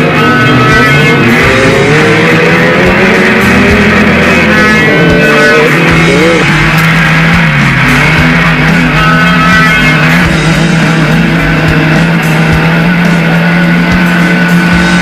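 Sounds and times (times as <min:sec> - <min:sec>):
race vehicle engine running hard: 0:00.0 - 0:15.0
rock music: 0:00.0 - 0:15.0.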